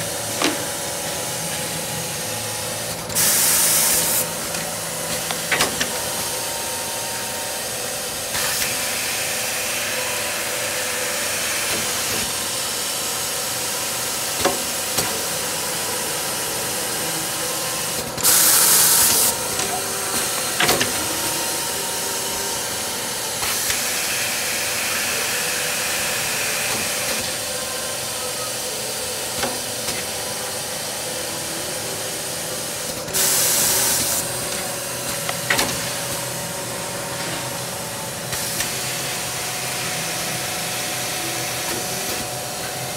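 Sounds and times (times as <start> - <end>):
machine mechanical hum: 0.0 - 42.9.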